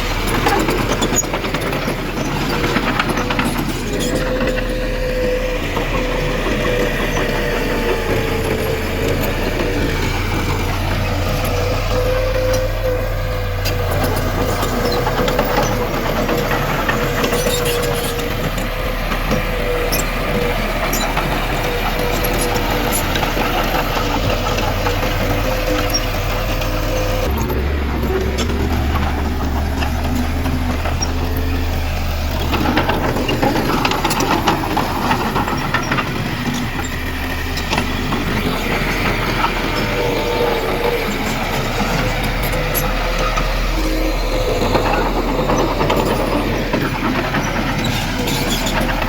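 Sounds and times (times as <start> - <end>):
diesel engine running: 0.0 - 49.0
machine whine: 0.0 - 49.0.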